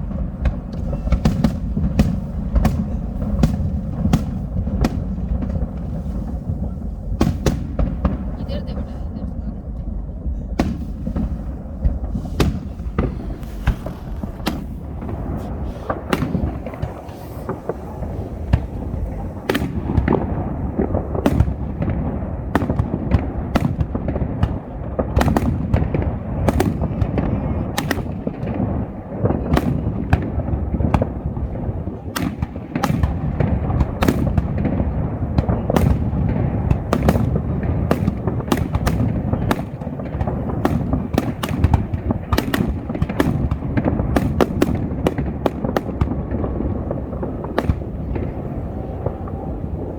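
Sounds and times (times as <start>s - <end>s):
low rumble of firework booms: 0.0s - 49.9s
sharp firework bangs: 0.0s - 49.9s.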